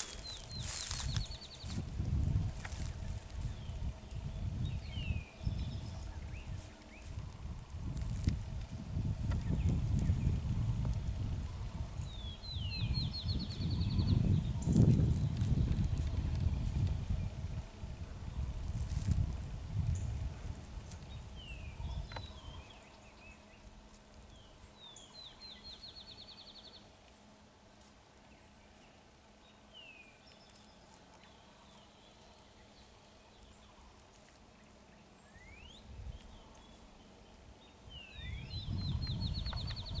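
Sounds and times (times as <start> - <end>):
songbird singing with trill: 0.0 - 1.9, 2.6 - 8.3, 9.2 - 19.1, 19.8 - 20.3, 20.9 - 26.9, 28.2 - 40.0.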